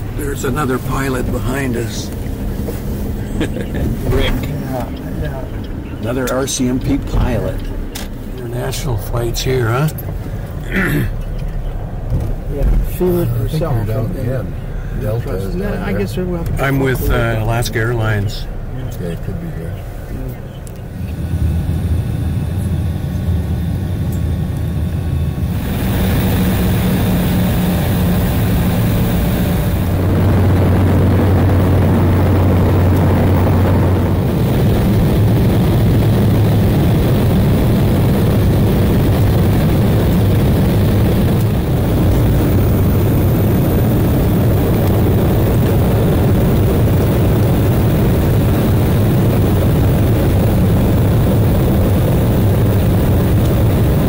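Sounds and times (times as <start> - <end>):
jet engines and airflow rushing: 0.0 - 54.0
low cabin hum: 0.0 - 54.0.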